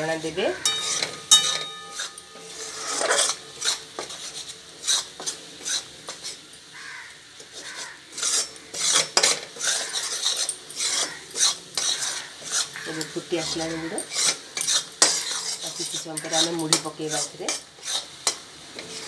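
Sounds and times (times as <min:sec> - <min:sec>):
steel spatula scraping a pan: 0:00.0 - 0:19.0.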